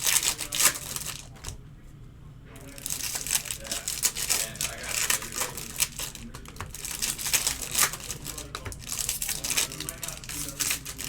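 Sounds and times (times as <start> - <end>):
card wrappers crinkling and tearing: 0.0 - 1.5, 2.6 - 11.0.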